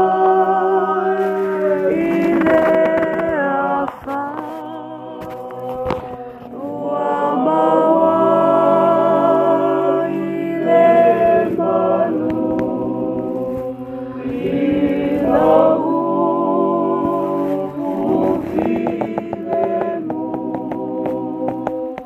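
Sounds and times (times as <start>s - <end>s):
voices singing in harmony: 0.0s - 22.0s.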